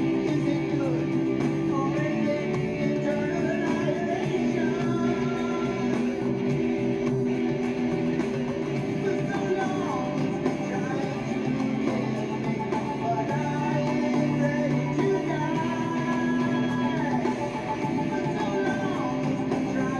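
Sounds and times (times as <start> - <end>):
instrumental rock music: 0.0 - 19.9.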